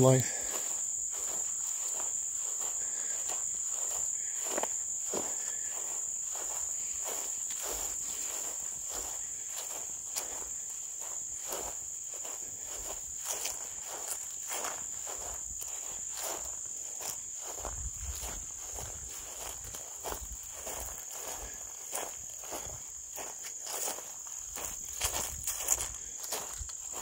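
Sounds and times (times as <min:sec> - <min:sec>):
footsteps through grass: 0:00.0 - 0:27.0
insects chorus: 0:00.0 - 0:27.0.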